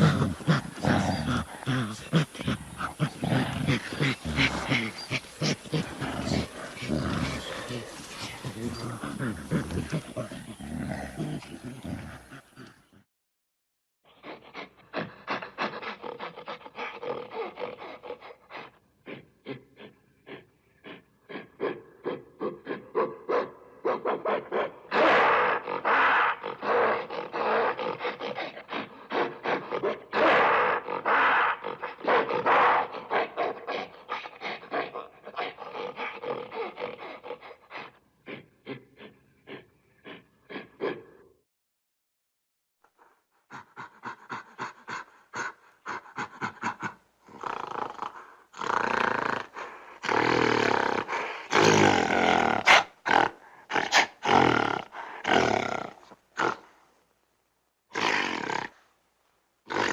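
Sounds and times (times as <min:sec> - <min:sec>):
gorilla panting grunts: 0:00.0 - 0:13.0, 0:14.1 - 0:23.2, 0:24.3 - 0:41.3, 0:42.9 - 0:56.7.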